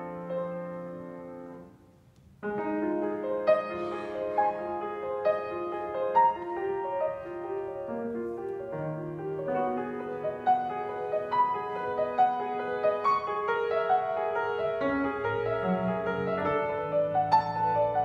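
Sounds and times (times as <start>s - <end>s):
grand piano playing: 0.0s - 18.0s.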